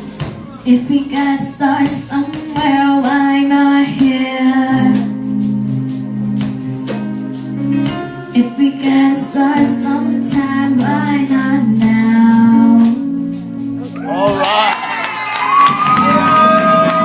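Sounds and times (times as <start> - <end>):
held chords: 0.0 - 17.0
steady percussion beat: 0.0 - 17.0
sung phrases: 0.4 - 14.9.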